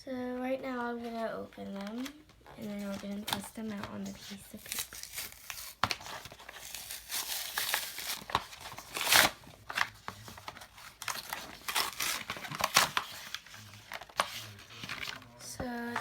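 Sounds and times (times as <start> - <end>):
plastic packaging tearing and crinkling: 1.7 - 16.0.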